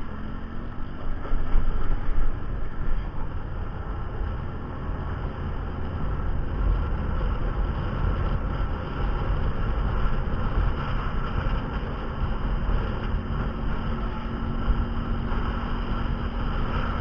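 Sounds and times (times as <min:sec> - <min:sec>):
vehicle running rumble: 0:00.0 - 0:17.0
wind noise on microphone: 0:00.0 - 0:17.0.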